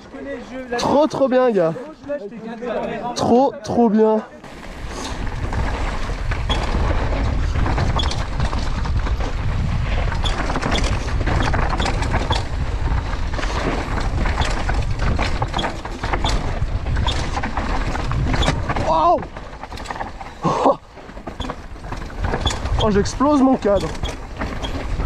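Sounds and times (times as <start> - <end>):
mountain bike riding on dirt trail: 0.0 - 3.1, 4.3 - 25.0
bike rattling over bumps: 4.4 - 25.0.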